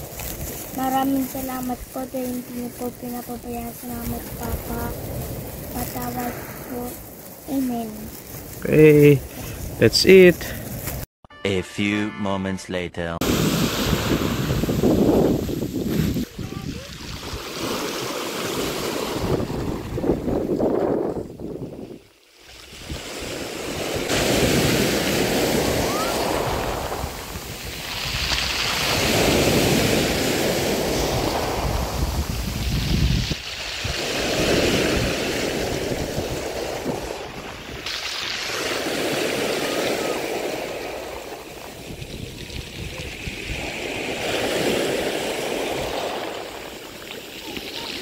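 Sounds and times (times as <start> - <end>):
sea waves breaking on a beach: 0.0 - 11.0, 13.2 - 48.0.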